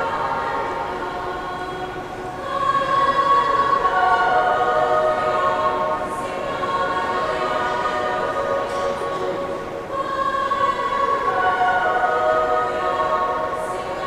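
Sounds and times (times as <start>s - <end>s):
girls' choir singing in harmony: 0.0s - 14.0s.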